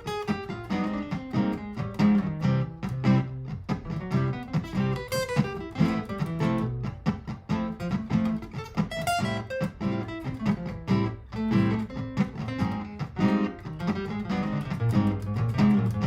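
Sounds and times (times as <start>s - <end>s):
looped acoustic guitar accompaniment: 0.0s - 16.0s
quick picked guitar notes: 0.0s - 16.0s.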